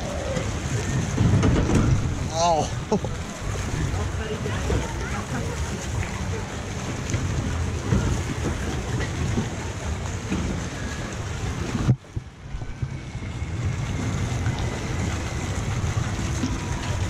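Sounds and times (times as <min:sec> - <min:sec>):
water rushing past: 0:00.0 - 0:17.0
wind buffeting microphone: 0:00.0 - 0:17.0.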